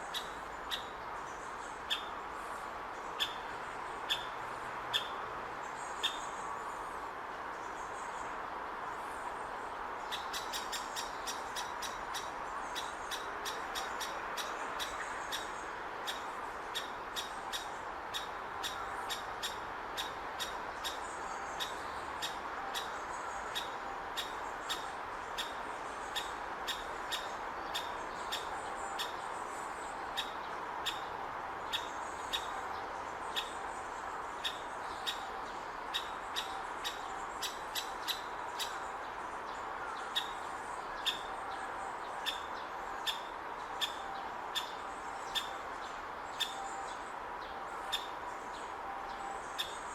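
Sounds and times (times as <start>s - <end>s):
steady background hiss: 0.0s - 49.9s.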